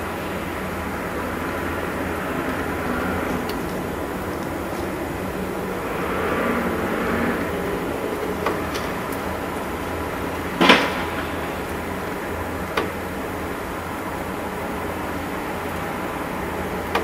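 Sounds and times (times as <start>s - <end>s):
deep droning hum: 0.0s - 15.0s.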